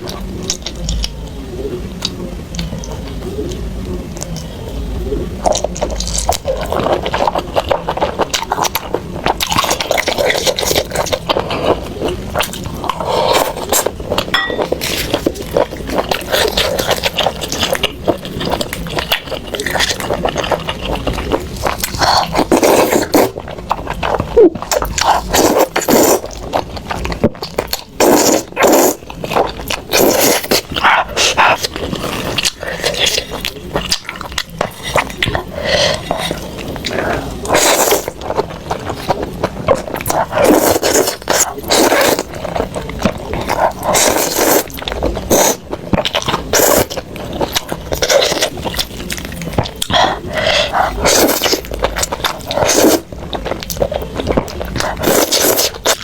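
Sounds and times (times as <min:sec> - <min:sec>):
slurping and chewing noodles: 0:05.4 - 0:56.0.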